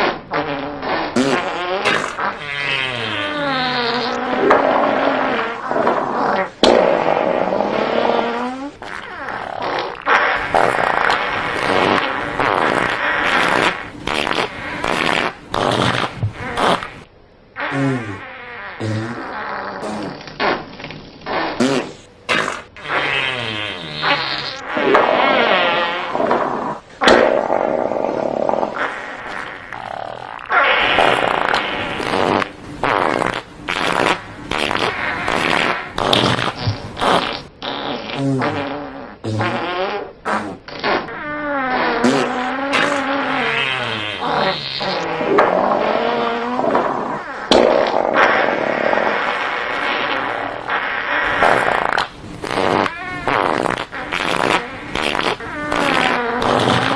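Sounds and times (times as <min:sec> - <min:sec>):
fart sound effects: 0:00.0 - 0:56.9.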